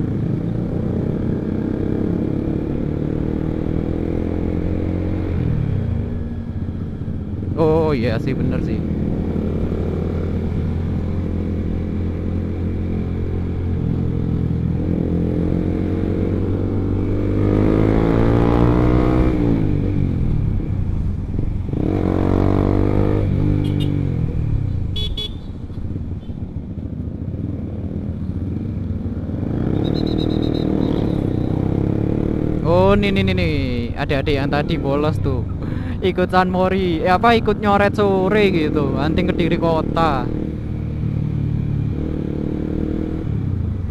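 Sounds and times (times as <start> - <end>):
motorcycle engine revving: 0.0 - 7.6, 8.3 - 25.6, 26.6 - 35.0, 38.1 - 43.9.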